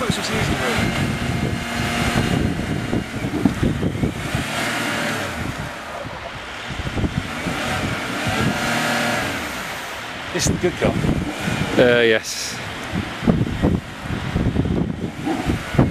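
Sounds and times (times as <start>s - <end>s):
engine labouring in mud: 0.0s - 15.9s.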